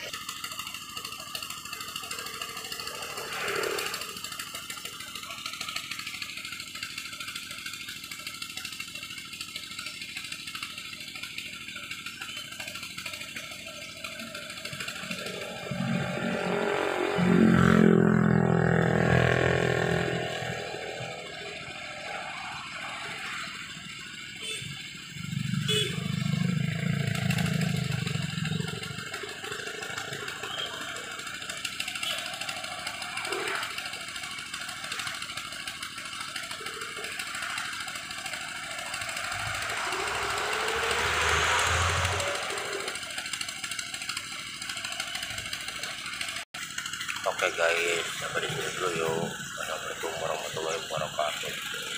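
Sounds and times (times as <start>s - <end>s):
excavator diesel engine revving: 0.0s - 51.9s
hydraulic whine: 0.0s - 51.9s.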